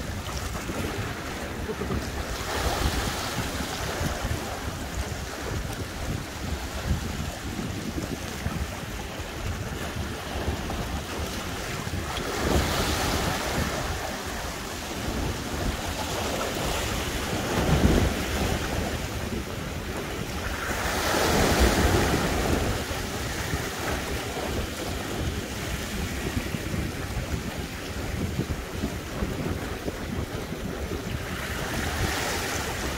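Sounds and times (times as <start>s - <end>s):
waves breaking against rocks: 0.0s - 32.9s
wind buffeting microphone: 0.0s - 32.9s.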